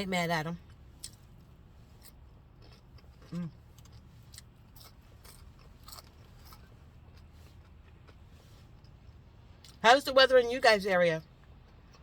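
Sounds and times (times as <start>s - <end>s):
chewing crispy potatoes: 0.6s - 9.8s, 11.2s - 12.0s.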